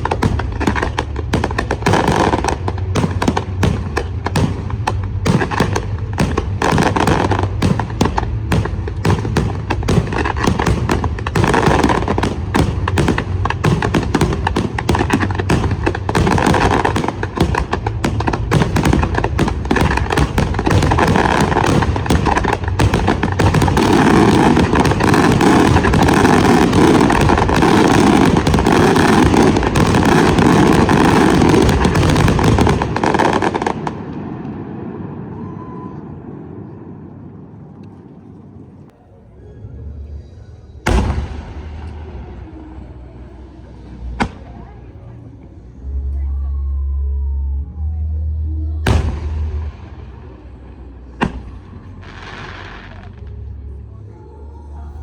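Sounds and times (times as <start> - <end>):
fireworks cracking and banging: 0.0 - 37.2, 40.8 - 45.3, 48.9 - 53.6.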